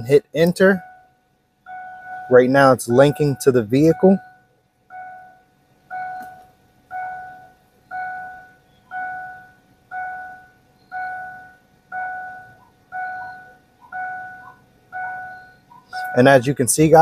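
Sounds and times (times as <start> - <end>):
car warning chime dinging: 0.0 - 17.0.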